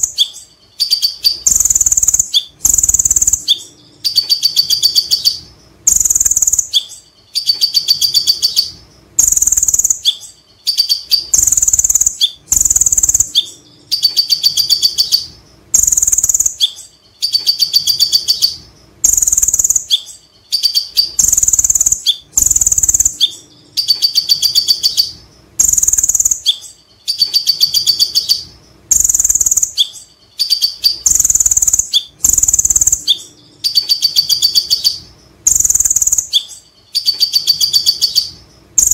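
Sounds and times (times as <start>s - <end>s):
sunbird singing shrill trills: 0.0s - 38.9s.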